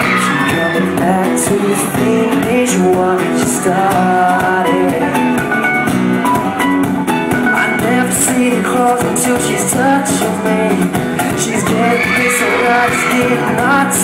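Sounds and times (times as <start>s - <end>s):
man singing: 0.0s - 5.6s, 7.3s - 14.0s
strummed acoustic guitars: 0.0s - 14.0s.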